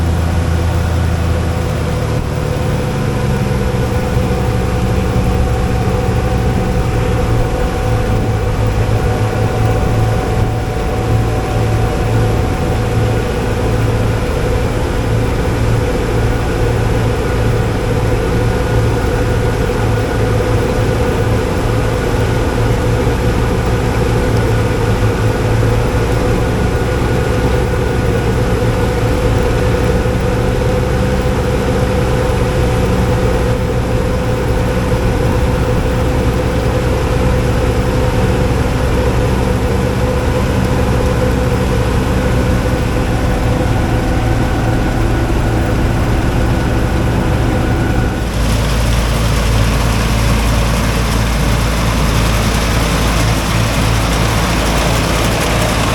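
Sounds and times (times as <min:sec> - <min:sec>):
heavy engine humming: 0:00.0 - 0:55.9.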